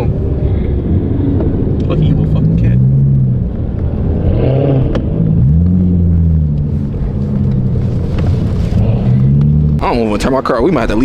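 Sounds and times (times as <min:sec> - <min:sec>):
car engine revving: 0:00.0 - 0:10.4
car engines rumbling: 0:00.0 - 0:11.0.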